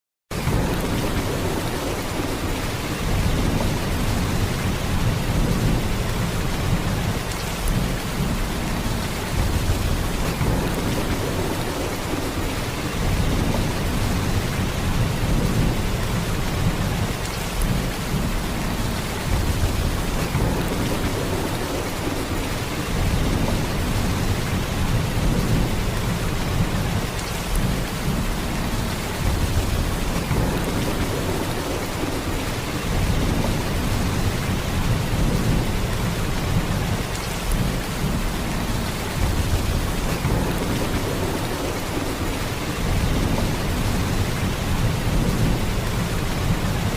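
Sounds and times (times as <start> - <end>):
heavy rain pouring: 0.3 - 46.9.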